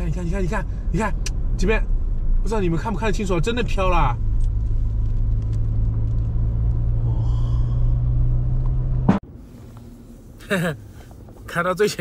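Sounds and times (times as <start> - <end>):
car engine: 0.0 - 12.0
road rumble: 0.0 - 12.0.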